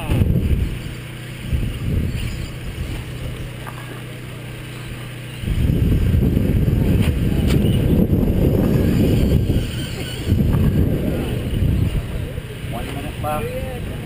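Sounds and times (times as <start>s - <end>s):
low hum: 0.0s - 14.0s
rc cars rumbling: 0.0s - 14.0s.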